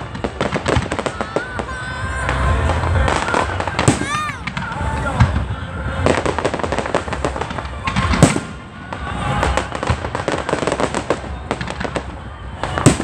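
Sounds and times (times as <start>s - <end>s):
fireworks crackling and popping: 0.0s - 13.0s
fireworks loud bang: 0.0s - 13.0s.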